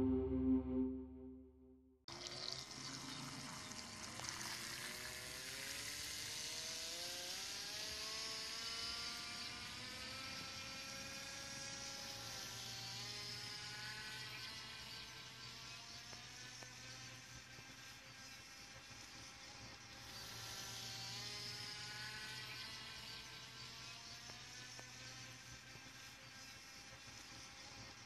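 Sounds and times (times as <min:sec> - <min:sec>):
toy boat motor whine: 0:02.1 - 0:28.0.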